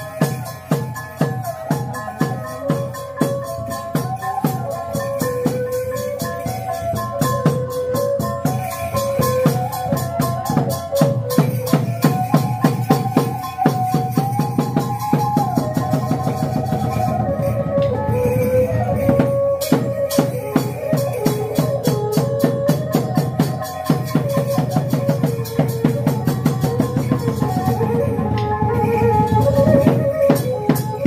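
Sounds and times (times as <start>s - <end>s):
drum and cymbal strikes: 0.0s - 31.0s.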